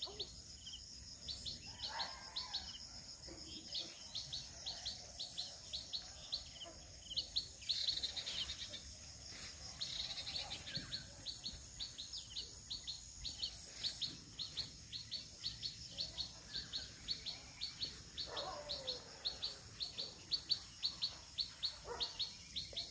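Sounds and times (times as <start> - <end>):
bird chirping: 0.0 - 22.9.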